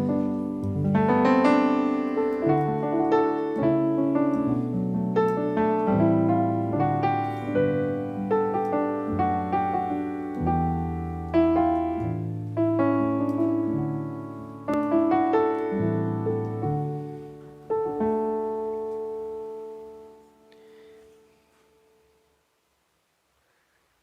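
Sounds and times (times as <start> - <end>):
piano chords with bass notes: 0.0 - 20.6.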